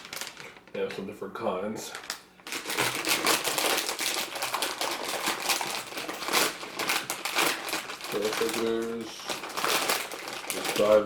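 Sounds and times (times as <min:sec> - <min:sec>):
plastic packaging crinkling: 0:00.0 - 0:01.0, 0:01.8 - 0:11.0.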